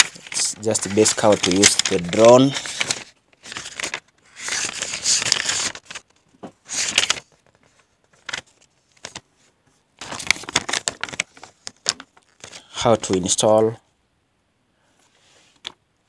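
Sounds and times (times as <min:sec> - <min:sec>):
paper rustling: 0:00.0 - 0:13.4.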